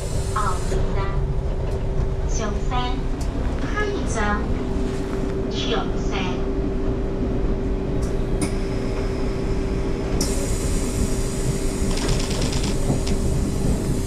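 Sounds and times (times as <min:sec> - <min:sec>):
rail car rumble: 0:00.0 - 0:14.0.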